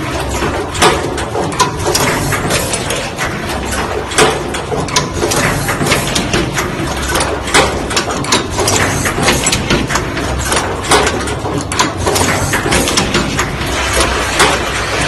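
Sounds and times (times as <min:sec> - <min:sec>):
machine humming: 0:00.0 - 0:15.0
machine tooling clicking: 0:00.2 - 0:15.0.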